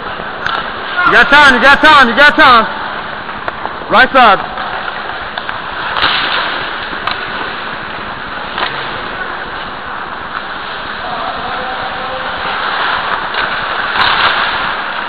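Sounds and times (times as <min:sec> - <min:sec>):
ice hockey game noise: 0:00.0 - 0:15.0.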